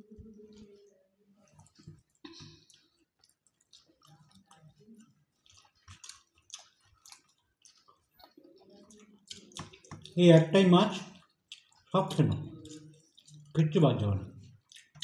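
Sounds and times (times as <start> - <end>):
chewing: 0.0 - 15.0
fingers mixing food on steel plates: 0.0 - 15.0.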